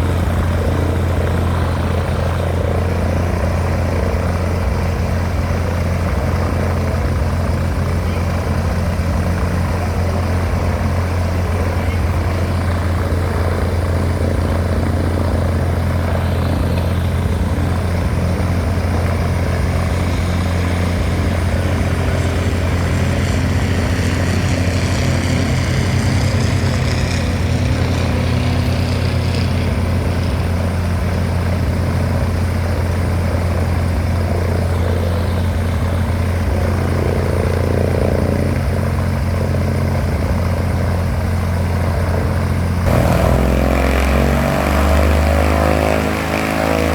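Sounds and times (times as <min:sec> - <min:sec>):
propeller aircraft engine droning: 0:00.0 - 0:46.9.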